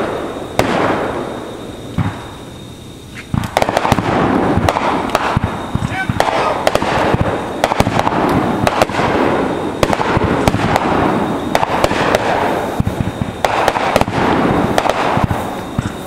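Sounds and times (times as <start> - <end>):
fireworks crackling and banging: 0.0 - 16.0.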